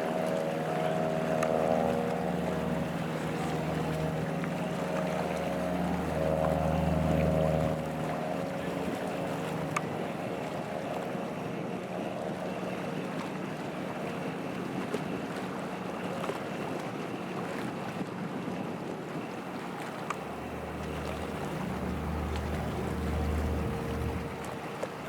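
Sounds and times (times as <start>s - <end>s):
motorboat engine drone: 0.0s - 25.0s
moving water: 0.0s - 25.0s.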